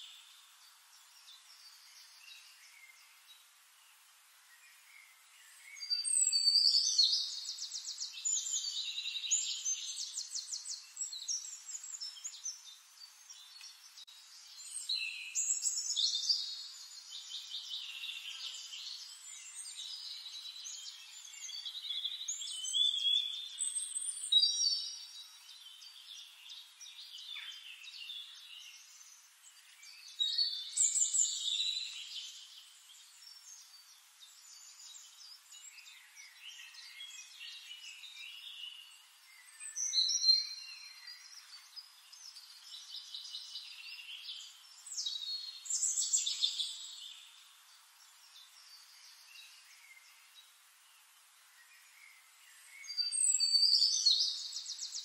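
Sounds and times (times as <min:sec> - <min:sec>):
faint hiss: 0:00.0 - 0:55.0.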